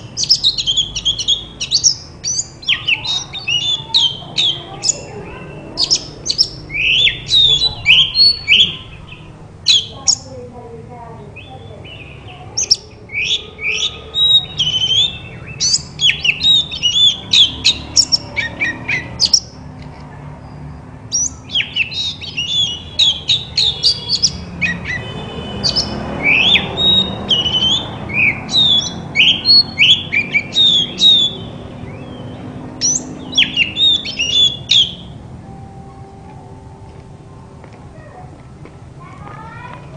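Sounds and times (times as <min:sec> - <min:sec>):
bird singing whistles: 0:00.0 - 0:09.0, 0:09.7 - 0:10.3, 0:11.4 - 0:19.5, 0:20.5 - 0:35.1.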